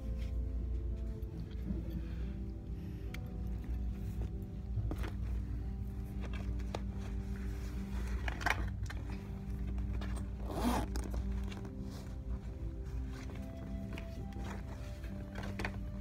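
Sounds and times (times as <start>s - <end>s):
background music low notes: 0.0s - 16.0s.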